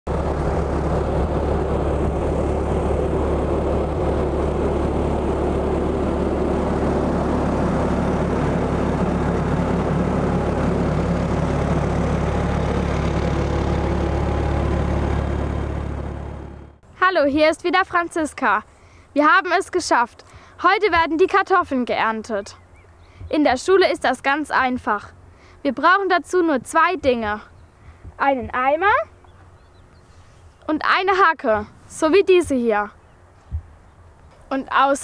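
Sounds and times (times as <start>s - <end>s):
tractor and harvester droning: 0.1s - 35.0s.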